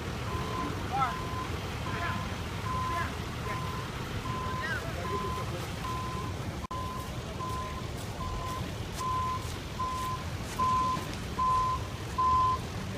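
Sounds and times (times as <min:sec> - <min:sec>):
truck backup alarm beeping: 0:00.0 - 0:12.7
low engine rumble: 0:00.0 - 0:12.9.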